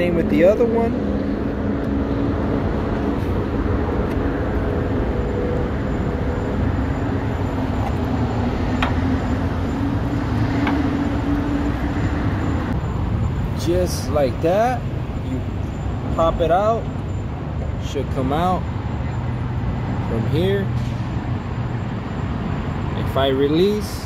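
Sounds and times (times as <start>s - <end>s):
road traffic drone: 0.0s - 24.0s.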